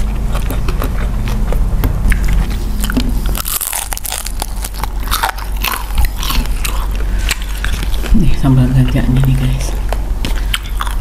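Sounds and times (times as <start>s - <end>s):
chewing with crisp crunches: 0.0s - 11.0s.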